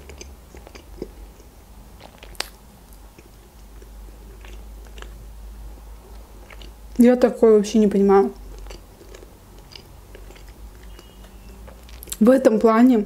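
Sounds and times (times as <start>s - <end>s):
person chewing food: 0.0s - 7.0s, 8.4s - 12.2s.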